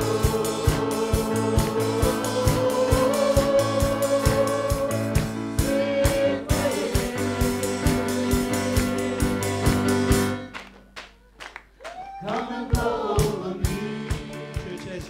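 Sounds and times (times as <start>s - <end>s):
people singing: 0.0s - 10.5s, 12.2s - 15.0s
worship band playing: 0.0s - 11.0s, 11.9s - 15.0s.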